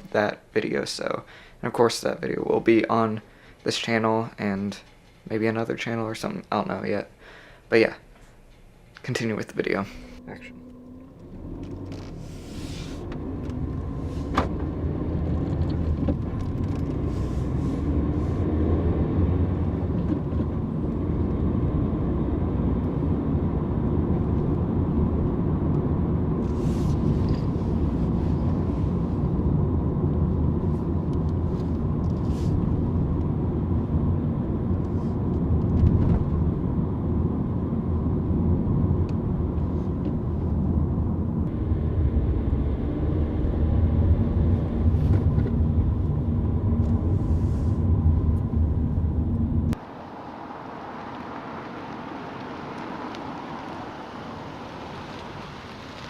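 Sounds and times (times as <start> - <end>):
car engine and road noise: 8.7 - 56.0.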